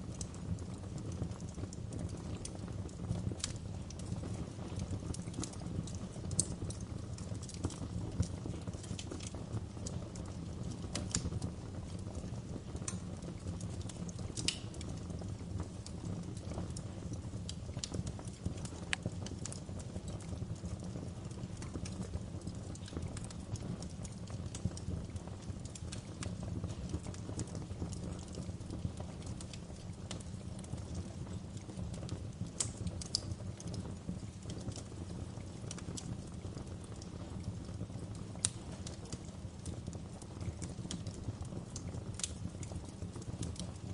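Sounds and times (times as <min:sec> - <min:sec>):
fire crackling and popping: 0:00.0 - 0:43.9
fire rumbling: 0:00.0 - 0:43.9.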